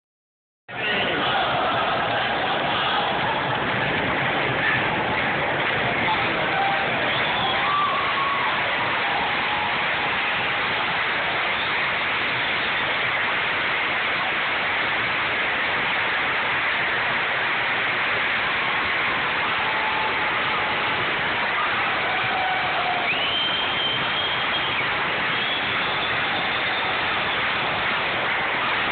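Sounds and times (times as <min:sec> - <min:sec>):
arena crowd cheering: 0:00.7 - 0:28.9.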